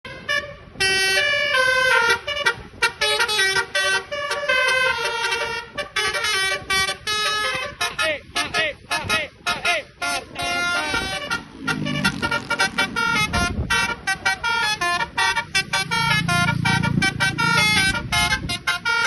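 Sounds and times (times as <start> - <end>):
musical air horn on bus: 0.1 - 19.0.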